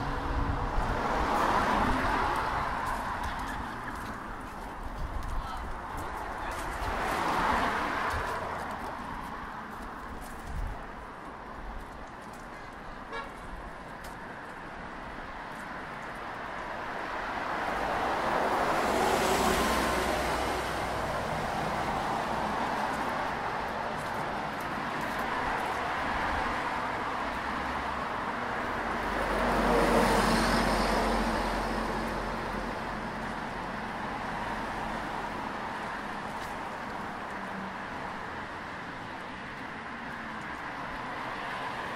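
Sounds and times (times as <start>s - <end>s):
louder vehicles passing: 0.0s - 11.5s, 12.4s - 41.9s
hum of cars: 0.0s - 41.9s.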